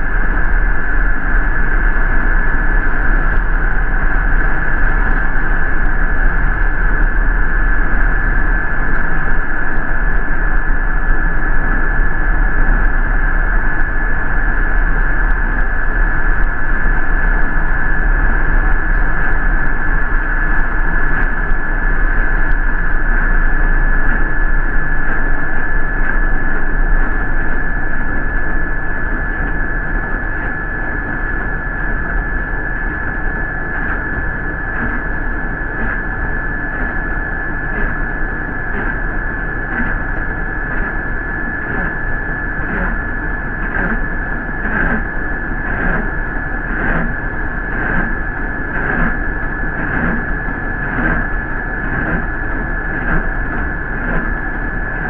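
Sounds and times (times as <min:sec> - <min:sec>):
bus ride drone: 0:00.0 - 0:55.0
high whine: 0:00.0 - 0:55.0.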